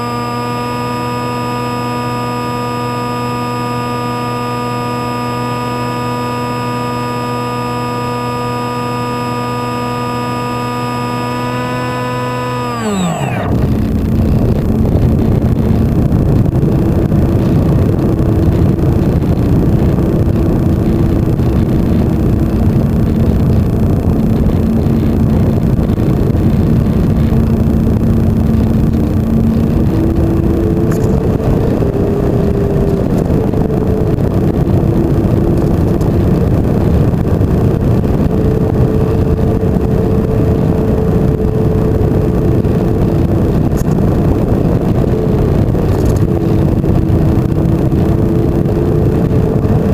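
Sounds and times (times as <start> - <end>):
electric motor and propeller hum: 0.0 - 49.9
rushing wind noise: 0.0 - 49.9.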